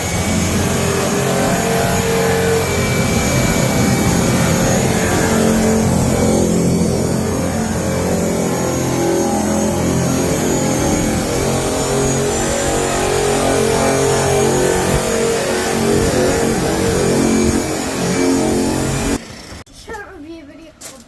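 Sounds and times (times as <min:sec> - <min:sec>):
drum sander motor running: 0:00.0 - 0:19.2.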